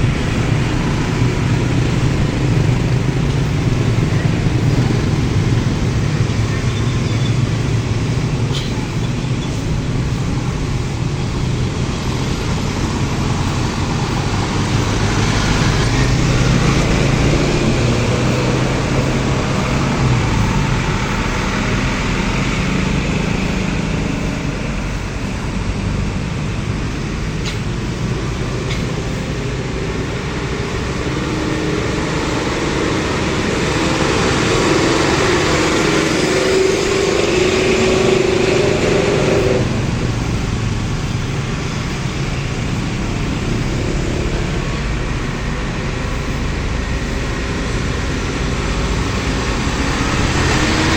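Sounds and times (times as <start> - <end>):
road traffic passing: 0.0 - 50.9
vehicle accelerating: 0.0 - 50.9.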